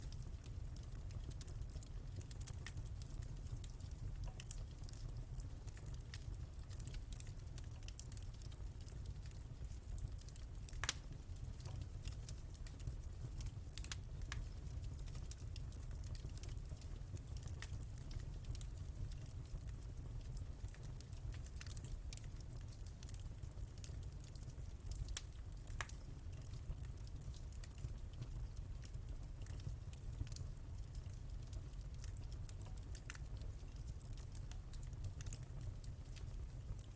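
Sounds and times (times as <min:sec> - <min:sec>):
fire crackling and popping: 0:00.0 - 0:36.9.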